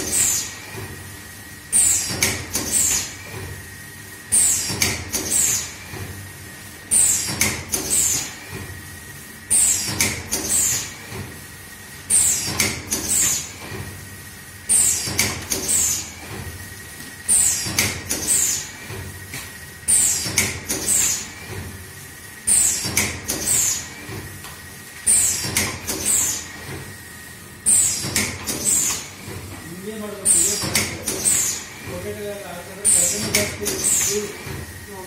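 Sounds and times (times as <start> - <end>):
faint steady machine whine: 0.0 - 35.0
packing machine clacks: 1.7 - 3.6, 4.3 - 6.3, 6.9 - 8.8, 9.5 - 11.4, 12.0 - 14.0, 14.6 - 21.8, 22.4 - 27.0, 27.6 - 34.9.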